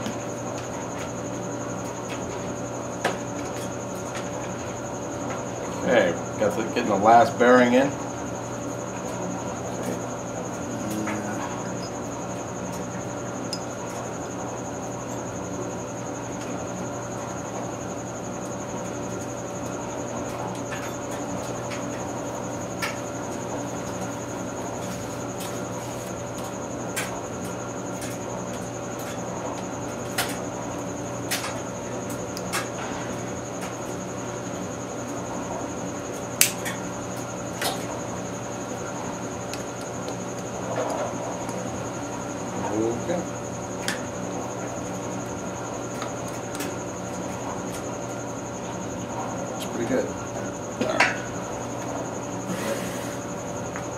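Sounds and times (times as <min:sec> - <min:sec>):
steady background hum: 0:00.0 - 0:53.9.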